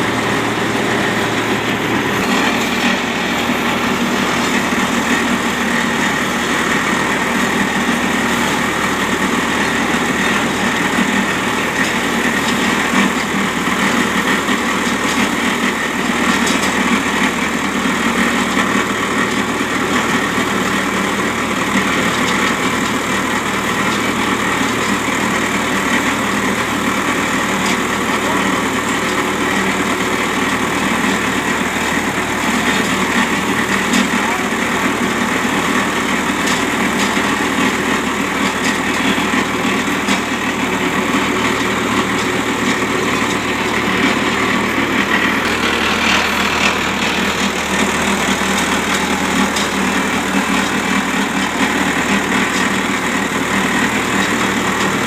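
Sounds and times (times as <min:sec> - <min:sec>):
baler and tractor running: 0:00.0 - 0:55.0.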